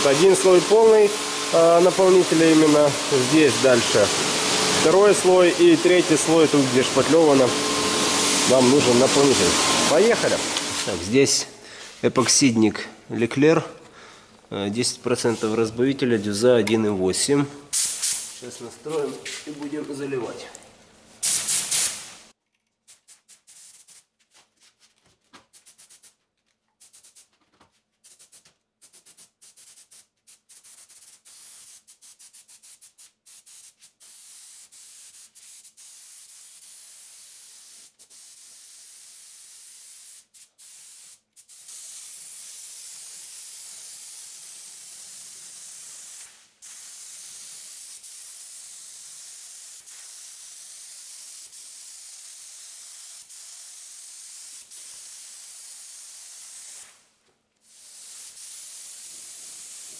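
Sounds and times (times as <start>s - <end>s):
spray gun hissing: 0.0s - 12.4s, 15.1s - 16.4s, 17.7s - 20.2s, 21.2s - 24.0s, 28.1s - 57.0s, 57.6s - 59.9s.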